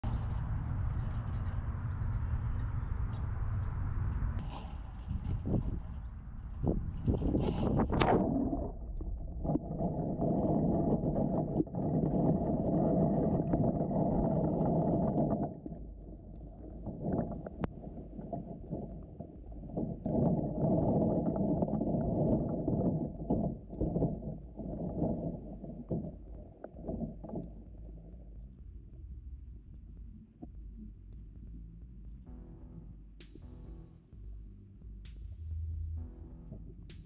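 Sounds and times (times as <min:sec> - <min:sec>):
muffled underwater creek rush: 0:00.0 - 0:32.4
low steady rumble: 0:00.0 - 0:37.0.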